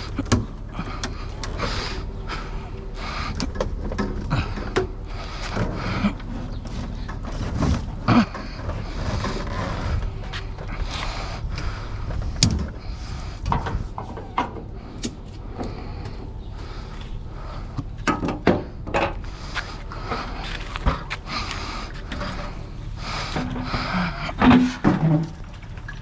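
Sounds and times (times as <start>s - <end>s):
scrap metal clanking and scraping: 0.1s - 16.9s, 17.5s - 26.0s.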